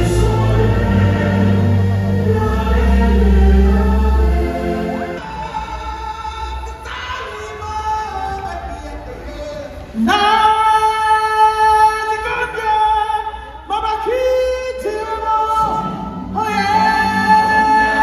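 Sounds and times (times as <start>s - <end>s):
stage-show music: 0.0s - 18.0s.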